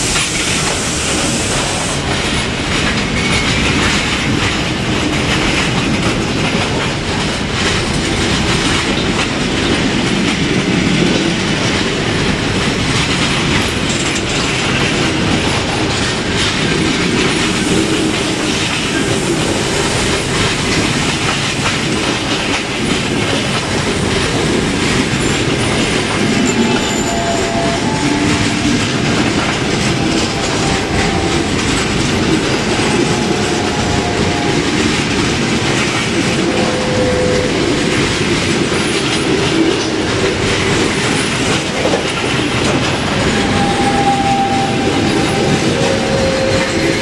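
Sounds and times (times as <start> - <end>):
train rumbling past: 0.0 - 47.0
wheels clattering on rails: 0.0 - 47.0.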